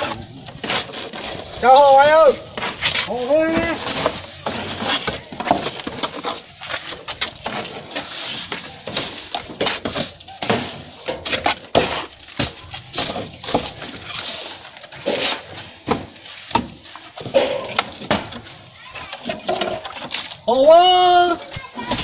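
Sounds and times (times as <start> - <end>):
trowels scraping wet mortar: 0.0 - 18.8.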